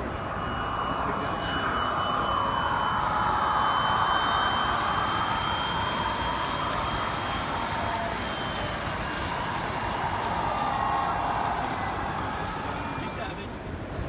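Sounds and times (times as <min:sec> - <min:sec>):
exhibition hall crowd hubbub: 0:00.0 - 0:14.0.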